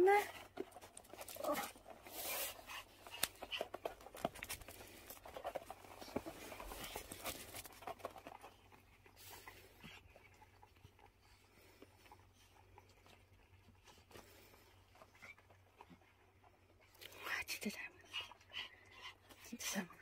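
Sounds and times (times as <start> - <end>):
puppy eating from a bowl: 0.0 - 20.0.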